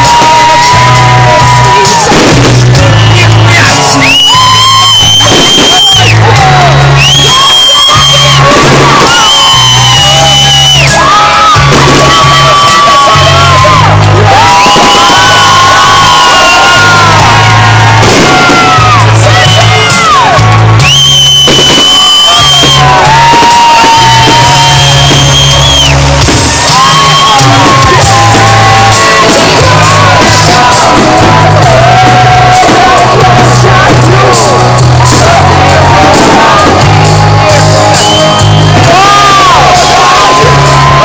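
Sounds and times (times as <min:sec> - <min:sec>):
loud music with pulsing bass: 0:00.0 - 0:41.0.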